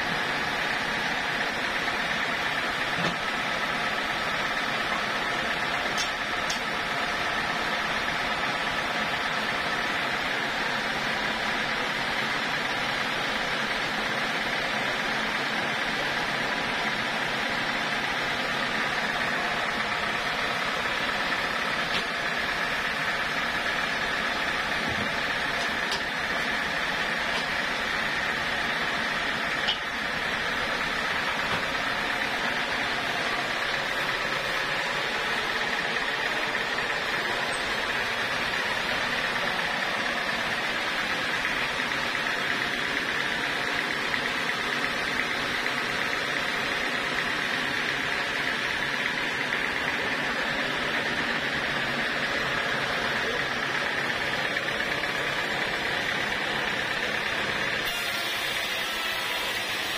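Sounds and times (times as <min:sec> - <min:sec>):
band sawmill running: 0:00.0 - 0:59.9.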